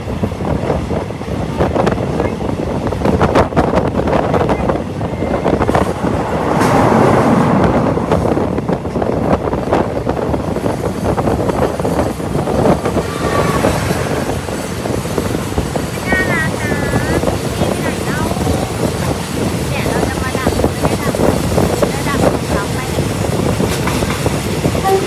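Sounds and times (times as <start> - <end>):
rushing air: 0.0 - 25.0
train wheels clattering on rails: 0.0 - 25.0.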